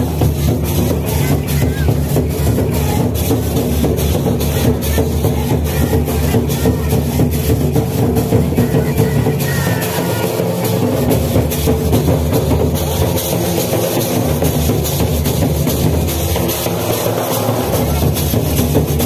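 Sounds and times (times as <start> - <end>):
loud folk dance music: 0.0 - 19.0
steady drum beat: 0.0 - 19.0.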